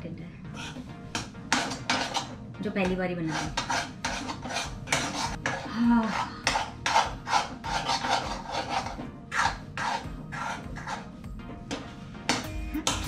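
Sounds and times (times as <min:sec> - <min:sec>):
metal spatula scraping a pan: 0:00.5 - 0:13.0.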